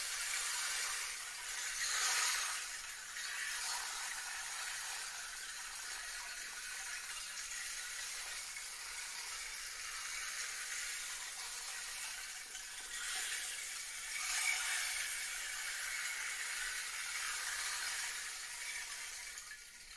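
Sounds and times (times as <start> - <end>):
rain shaker rushing hiss: 0.0 - 19.9.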